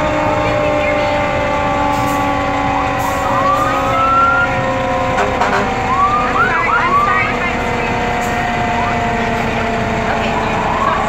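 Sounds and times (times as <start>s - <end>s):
fire engine siren: 0.0s - 11.0s.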